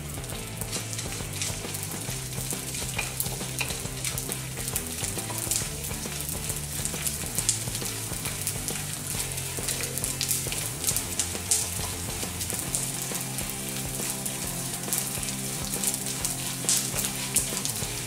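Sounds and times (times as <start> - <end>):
gum frying in hot oil: 0.0 - 18.0
wooden spatula scraping wok: 0.1 - 18.0.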